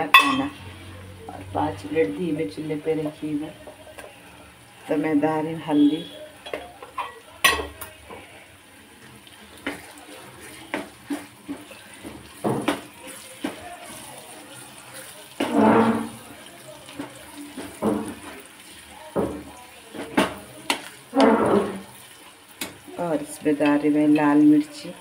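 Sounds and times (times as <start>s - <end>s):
onions frying: 0.0s - 25.0s.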